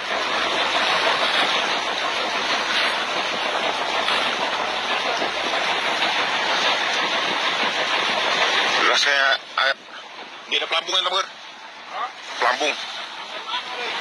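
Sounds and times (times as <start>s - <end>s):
boat engine running: 0.0s - 14.0s
water rushing: 0.0s - 14.0s
wind: 0.0s - 14.0s.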